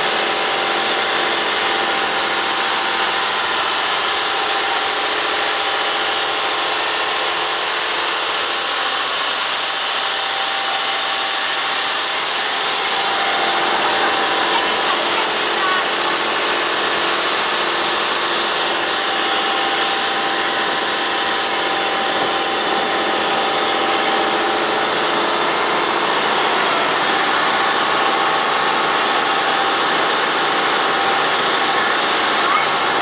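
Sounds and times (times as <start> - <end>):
boat engine running: 0.0 - 33.0
water rushing along hull: 0.0 - 33.0.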